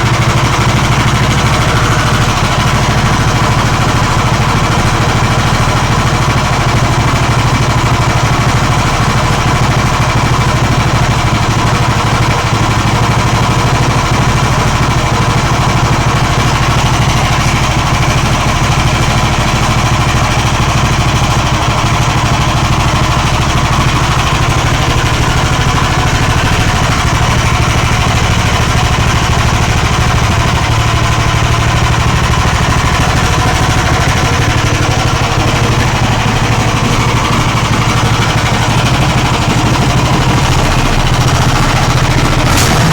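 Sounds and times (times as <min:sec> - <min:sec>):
petrol engine running: 0:00.0 - 0:42.9.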